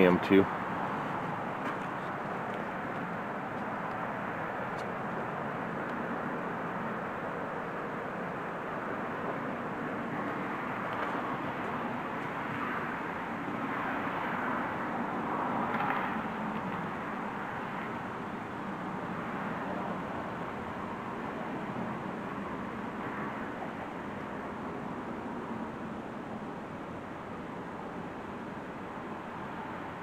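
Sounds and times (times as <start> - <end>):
rushing outdoor background noise: 0.0 - 30.0.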